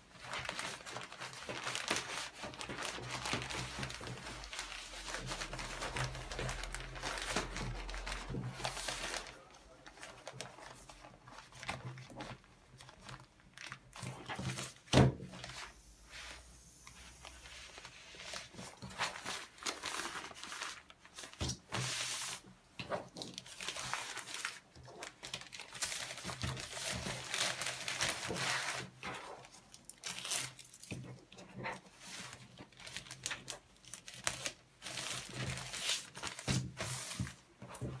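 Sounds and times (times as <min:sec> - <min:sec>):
plastic packaging rustling: 0:00.0 - 0:38.0.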